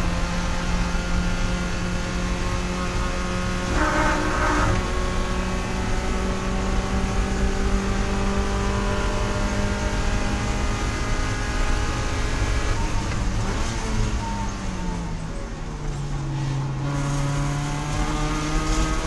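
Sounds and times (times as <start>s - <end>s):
race car engine under load: 0.0s - 19.0s.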